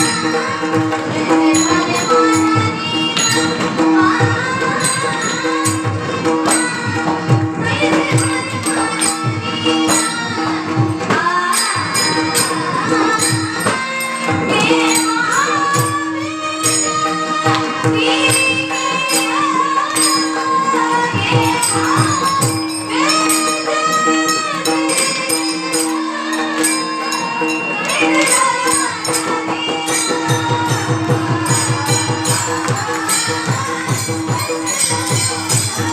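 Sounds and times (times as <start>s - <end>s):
drum strokes: 0.0s - 35.9s
jingling metallic percussion: 0.0s - 35.9s
women singing devotional song: 0.0s - 35.9s.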